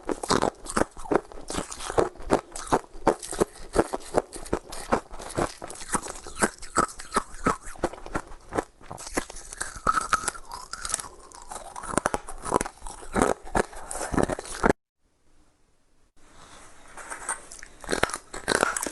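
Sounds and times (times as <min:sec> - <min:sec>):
ice being chewed: 0:00.0 - 0:14.8, 0:17.4 - 0:18.9.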